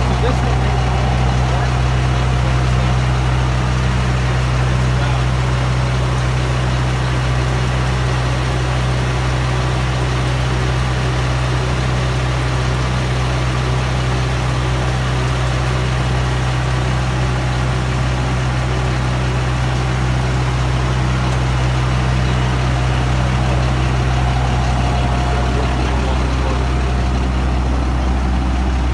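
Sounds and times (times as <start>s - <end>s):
truck engine droning: 0.0s - 28.9s.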